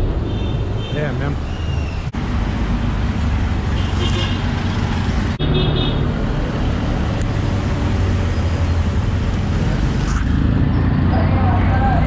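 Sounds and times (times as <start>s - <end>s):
traffic drone: 0.0s - 12.0s.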